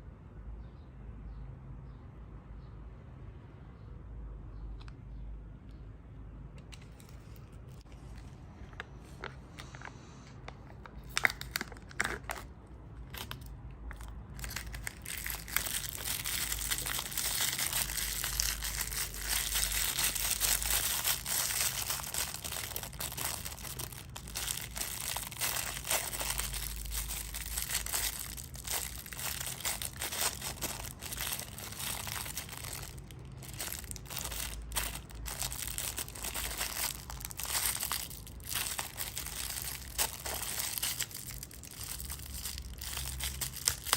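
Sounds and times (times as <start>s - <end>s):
packaging crinkling and tearing: 6.8s - 43.9s.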